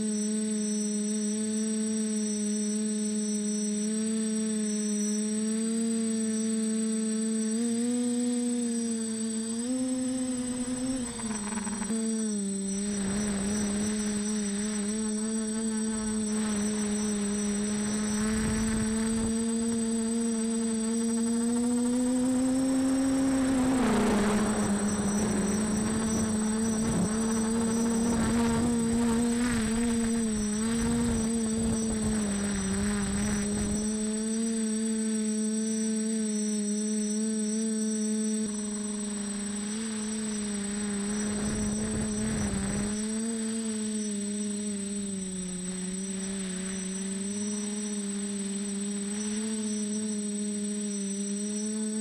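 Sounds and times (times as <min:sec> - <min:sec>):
drone propellers buzzing: 0:00.1 - 0:52.0.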